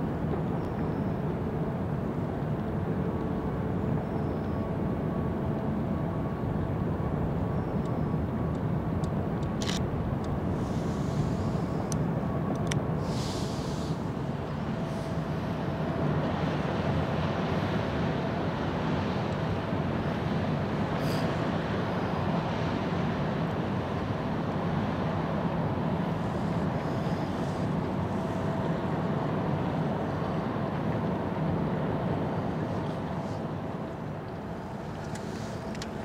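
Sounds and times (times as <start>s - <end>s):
faint steady hums: 0.0s - 36.0s
ship low rumble: 0.0s - 36.0s.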